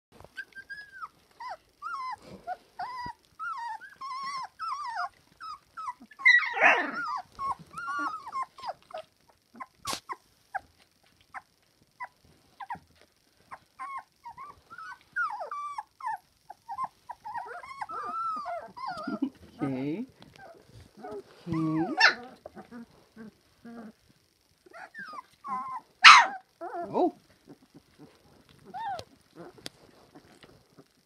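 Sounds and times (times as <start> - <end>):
puppies whining and yelping: 0.2 - 31.0.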